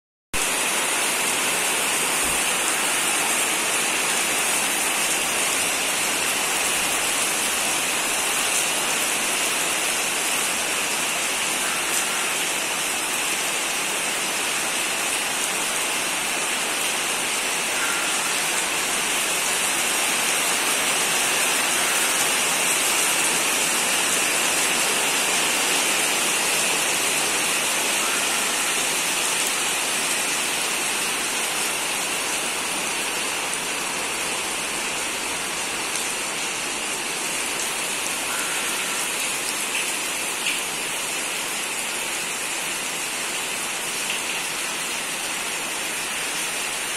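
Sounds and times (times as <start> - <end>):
heavy rain on leaves and mud: 0.4 - 46.9.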